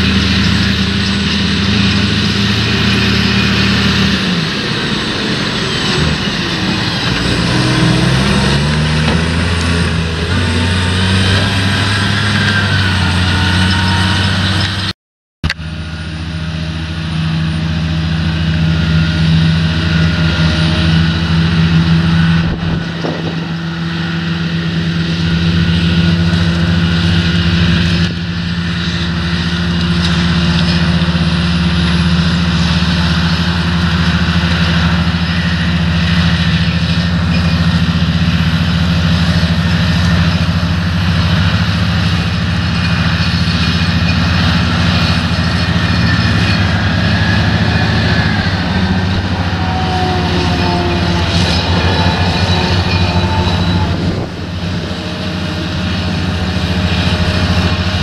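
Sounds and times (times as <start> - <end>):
harvester diesel engine running: 0.0 - 58.0.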